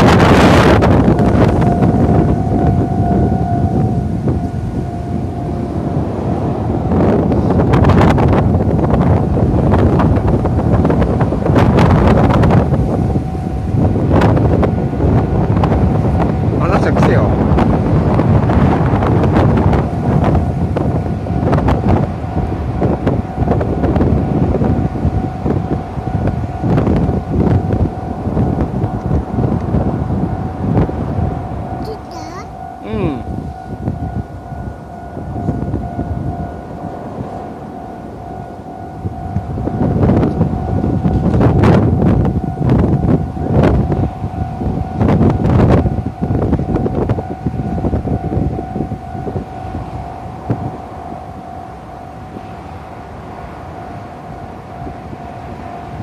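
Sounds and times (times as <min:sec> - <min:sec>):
level crossing alarm tone: 0:00.0 - 0:11.0, 0:17.9 - 0:56.0
wind buffeting microphone: 0:00.0 - 0:56.0.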